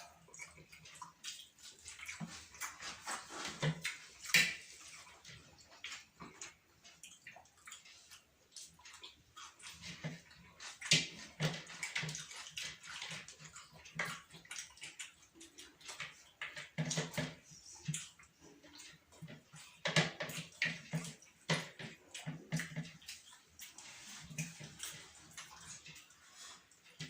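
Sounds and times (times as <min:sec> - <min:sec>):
chewing and lip-smacking: 0:00.0 - 0:27.0.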